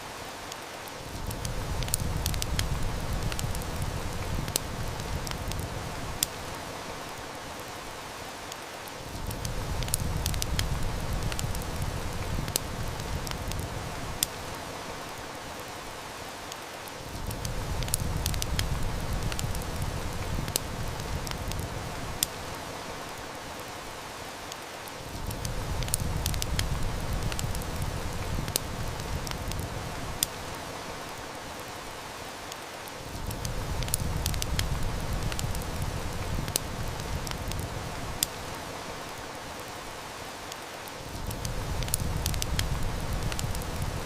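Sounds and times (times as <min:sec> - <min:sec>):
heavy rain: 0:00.0 - 0:44.0
wood fire crackling: 0:00.0 - 0:44.0.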